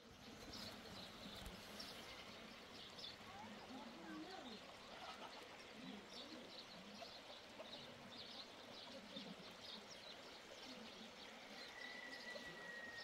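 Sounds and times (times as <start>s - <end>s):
faint low bird calls: 0.0s - 13.0s
outdoor background hiss: 0.0s - 13.0s.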